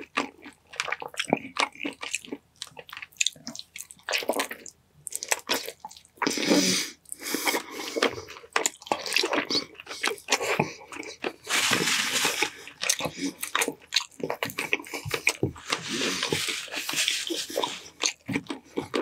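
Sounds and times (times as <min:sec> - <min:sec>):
wet chewing smacks and clicks: 0:00.0 - 0:06.5, 0:07.1 - 0:11.4, 0:12.4 - 0:19.0.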